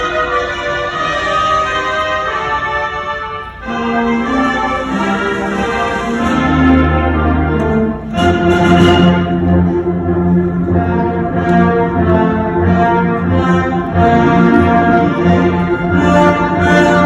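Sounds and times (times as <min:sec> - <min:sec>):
concert band brass chords: 0:00.0 - 0:17.0.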